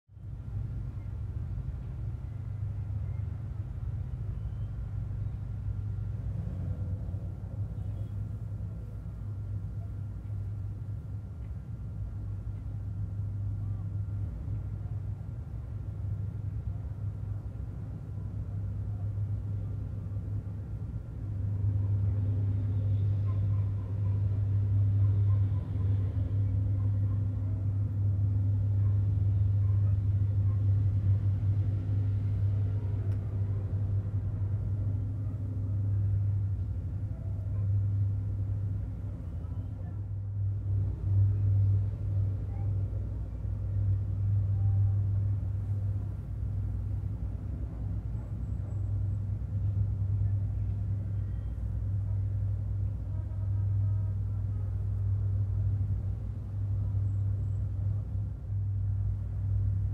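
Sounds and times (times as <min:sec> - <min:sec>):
ship diesel engines droning: 0:00.2 - 0:59.9.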